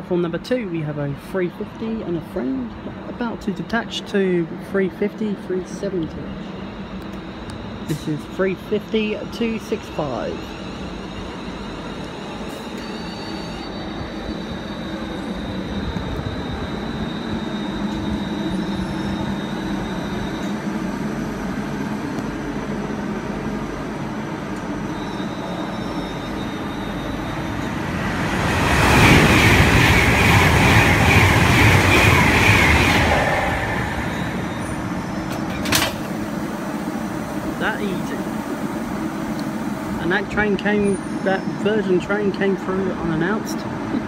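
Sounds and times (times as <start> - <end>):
electric train hum and whine: 0.0 - 44.0
train passing at speed: 0.6 - 44.0.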